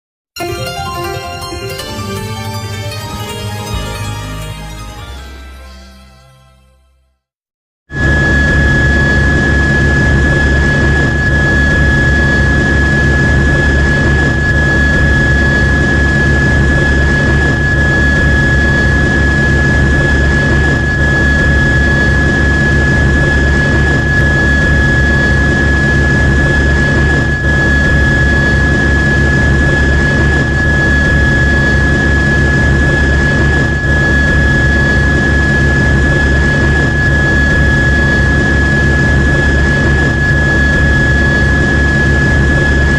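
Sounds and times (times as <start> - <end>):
helicopter rotor rumble: 8.0 - 42.9
helicopter turbine whine: 8.0 - 42.9.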